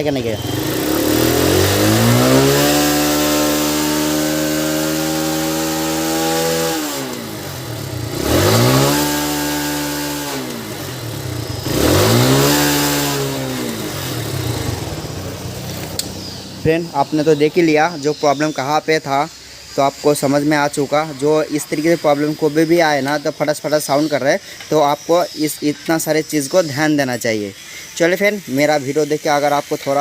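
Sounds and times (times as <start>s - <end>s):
motorcycle engine revving: 0.0s - 24.1s.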